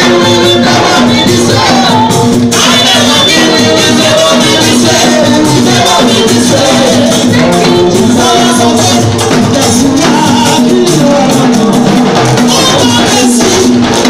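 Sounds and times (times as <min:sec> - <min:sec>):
backing singers: 0:00.0 - 0:14.0
band with percussion: 0:00.0 - 0:14.0
woman singing lead: 0:00.0 - 0:14.0.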